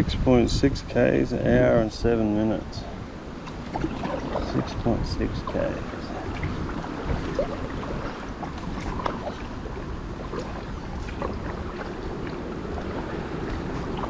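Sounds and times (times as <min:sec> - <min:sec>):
wind rumble on microphone: 0:00.0 - 0:14.0
water lapping and splashing: 0:01.6 - 0:14.0.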